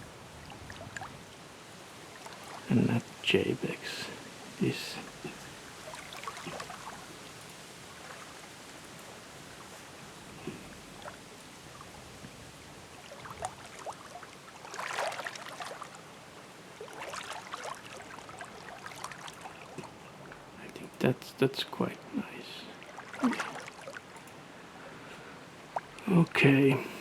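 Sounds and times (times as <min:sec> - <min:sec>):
background hiss: 0:00.0 - 0:18.1, 0:18.7 - 0:27.0.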